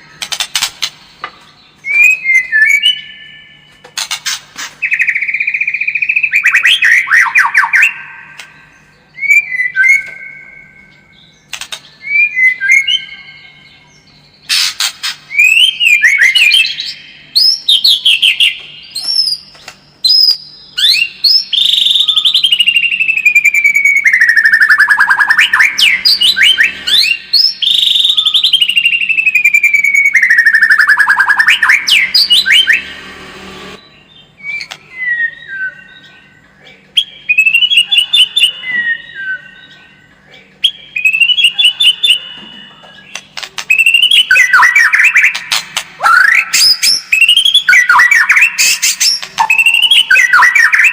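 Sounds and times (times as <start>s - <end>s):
bird singing whistles and trills: 0.0s - 4.1s, 4.8s - 32.9s, 33.8s - 36.4s, 37.0s - 40.0s, 40.6s - 50.9s.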